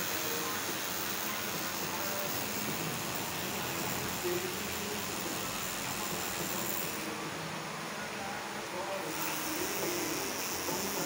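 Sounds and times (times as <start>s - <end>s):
tattoo machine running: 0.0s - 7.2s, 9.0s - 11.0s.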